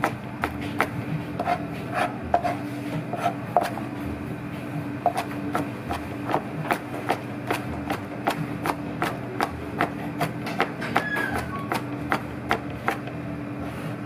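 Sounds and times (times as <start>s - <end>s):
knife chopping on cutting board: 0.0s - 3.8s, 5.0s - 13.1s.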